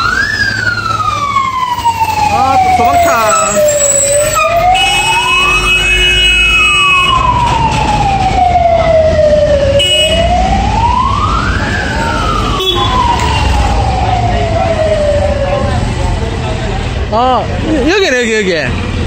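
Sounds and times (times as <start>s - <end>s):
fire engine siren wailing: 0.0s - 16.4s.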